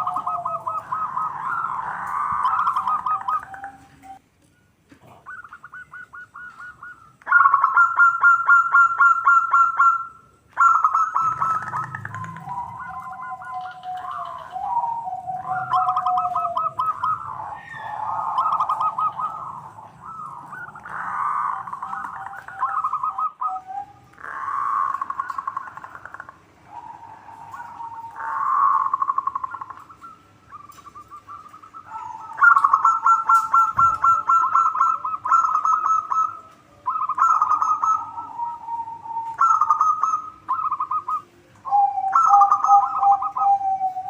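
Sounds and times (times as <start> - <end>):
doves cooing: 0.0 - 44.0.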